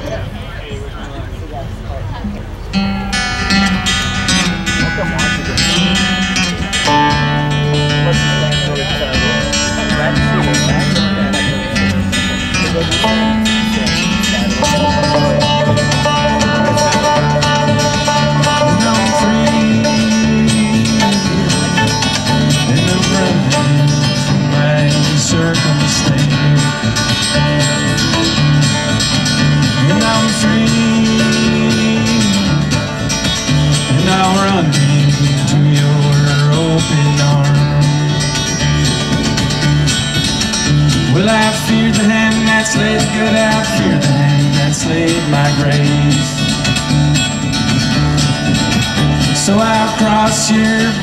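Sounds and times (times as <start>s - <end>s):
folk string band playing: 2.0s - 51.0s
deep bass notes: 2.7s - 51.0s.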